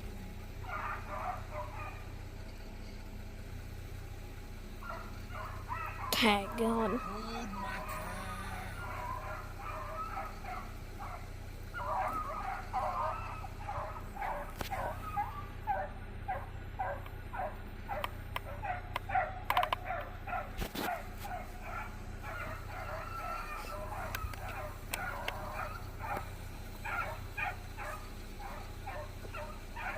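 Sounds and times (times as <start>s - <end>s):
hounds baying: 0.0s - 3.2s, 4.6s - 29.9s.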